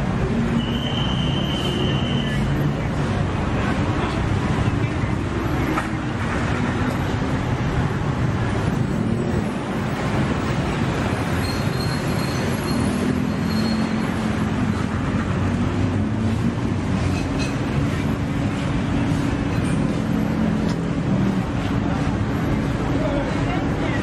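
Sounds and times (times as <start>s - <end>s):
street market ambience: 0.0s - 24.0s
traffic noise: 0.0s - 24.0s.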